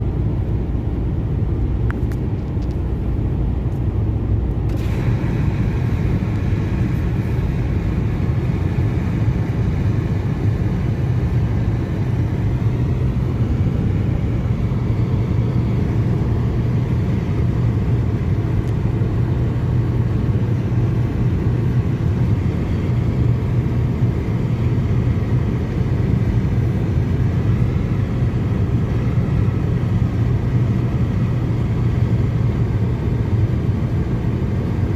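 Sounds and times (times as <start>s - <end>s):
car driving rumble: 0.0s - 34.9s.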